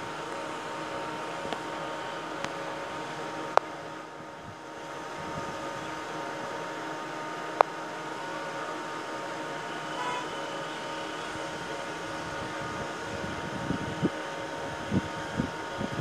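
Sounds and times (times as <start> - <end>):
steady hum and hiss: 0.0 - 16.0.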